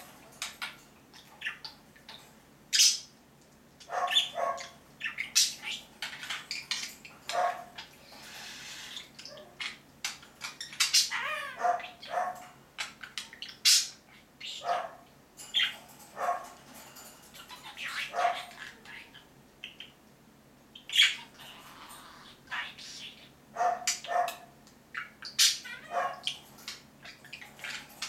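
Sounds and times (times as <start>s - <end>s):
budgerigars chirping and chattering: 0.0s - 3.2s, 3.8s - 20.0s, 20.7s - 28.0s.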